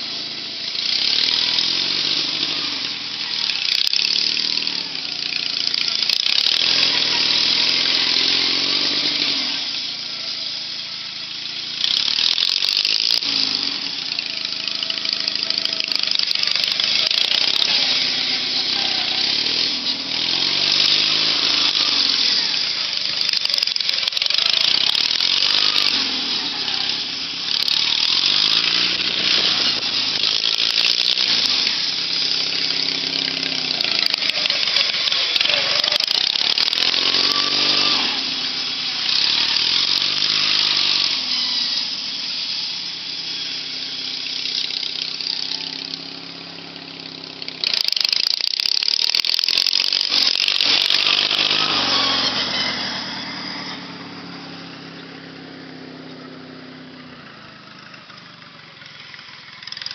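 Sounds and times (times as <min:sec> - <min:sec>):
riding lawn mower engine: 0:00.0 - 0:59.9.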